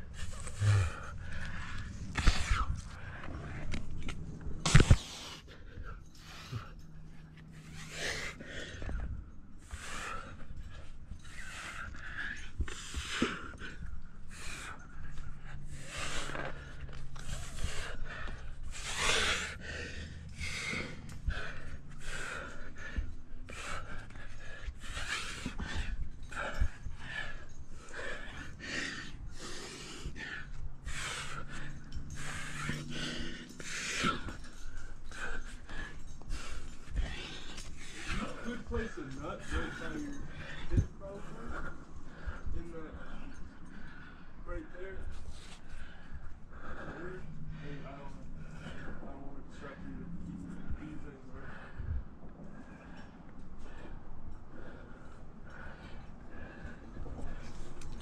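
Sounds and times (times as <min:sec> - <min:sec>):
person breathing hard: 0:00.0 - 0:58.0.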